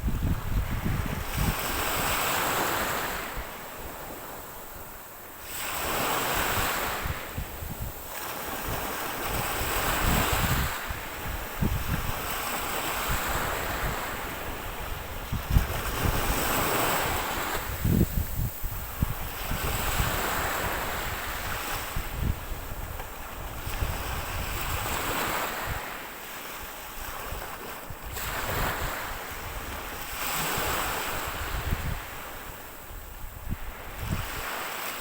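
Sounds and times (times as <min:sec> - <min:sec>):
ocean waves breaking: 0:00.0 - 0:32.9, 0:33.6 - 0:35.0
wind buffeting microphone: 0:00.0 - 0:34.8.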